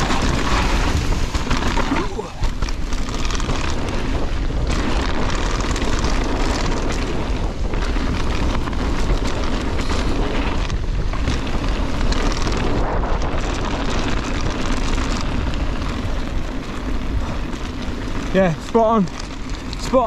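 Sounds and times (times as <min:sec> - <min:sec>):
bike rattling: 0:00.0 - 0:20.0
bike tyres crunching on gravel: 0:00.0 - 0:20.0
wind buffeting microphone: 0:00.0 - 0:20.0.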